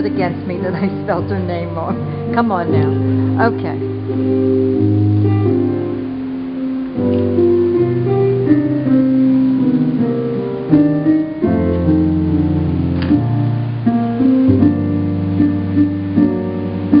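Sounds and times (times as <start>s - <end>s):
bass line: 0.0s - 17.0s
keyboard chords: 0.0s - 17.0s.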